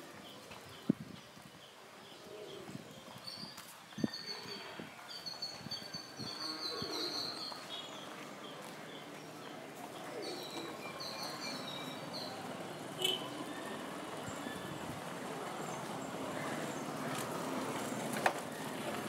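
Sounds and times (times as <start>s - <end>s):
birds chirping: 0.0s - 19.0s
outdoor background noise: 0.0s - 19.0s.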